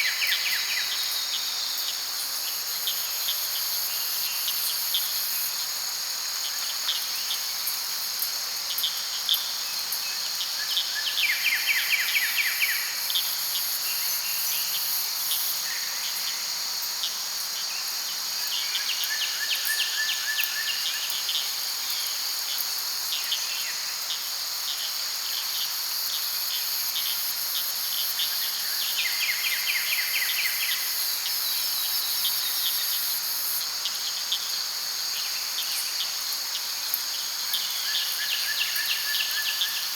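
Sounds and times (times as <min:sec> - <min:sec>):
insects chirping chorus: 0:00.0 - 0:39.9.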